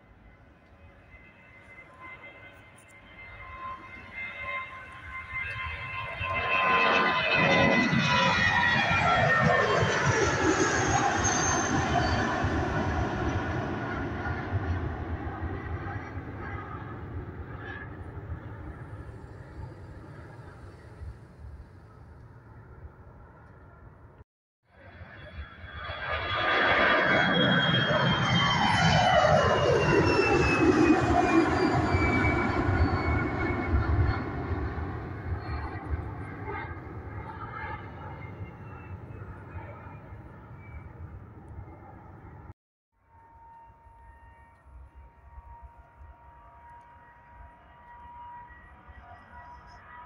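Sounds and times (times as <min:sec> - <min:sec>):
jet engines roaring at takeoff: 0:00.0 - 0:50.0.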